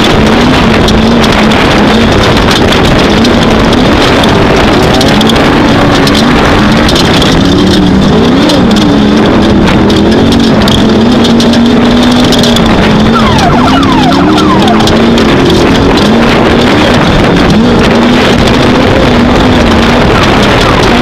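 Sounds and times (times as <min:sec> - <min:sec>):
chassis rattling and knocking: 0:00.0 - 0:21.0
off-road vehicle engine: 0:00.0 - 0:21.0.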